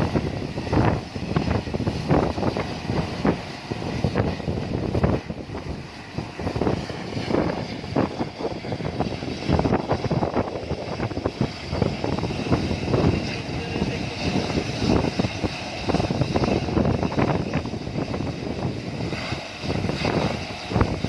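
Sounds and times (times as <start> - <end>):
helicopter running: 0.0 - 21.0
wind buffeting microphone: 0.0 - 21.0.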